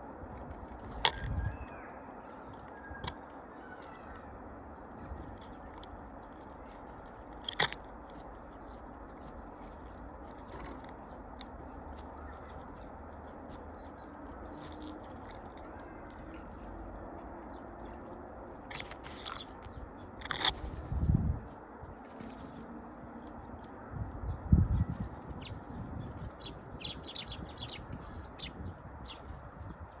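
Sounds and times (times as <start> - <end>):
birds pecking and cracking feed: 0.0 - 30.0.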